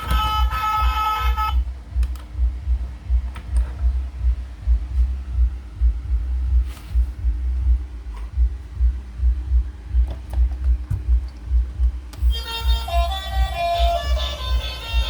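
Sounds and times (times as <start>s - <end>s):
background music melody: 0.0s - 15.0s
deep pulsing bass beat: 0.0s - 15.0s.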